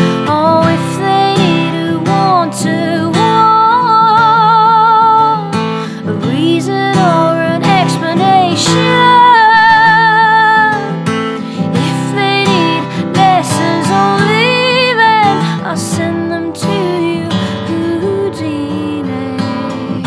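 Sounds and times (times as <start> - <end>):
strummed acoustic guitar: 0.0 - 20.0
woman singing with vibrato: 0.0 - 20.0.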